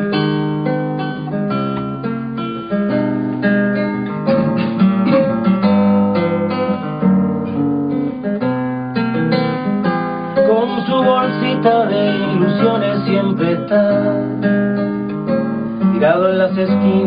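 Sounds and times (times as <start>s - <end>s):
classical guitar playing: 0.0s - 17.0s.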